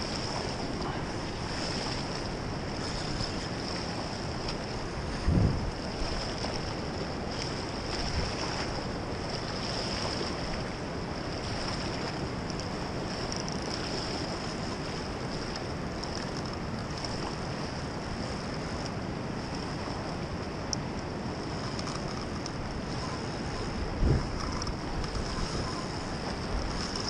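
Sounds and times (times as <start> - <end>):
wind buffeting microphone: 0.0 - 19.1, 22.4 - 27.0
fast-flowing river rushing: 0.0 - 27.0.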